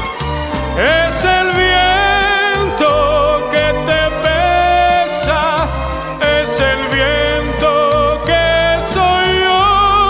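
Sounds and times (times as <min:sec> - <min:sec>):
instrumental pop ballad: 0:00.0 - 0:10.0.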